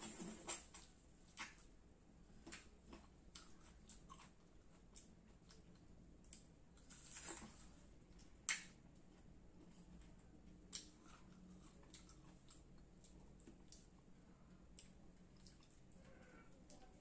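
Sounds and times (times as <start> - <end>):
crunching and chewing: 2.3 - 17.0.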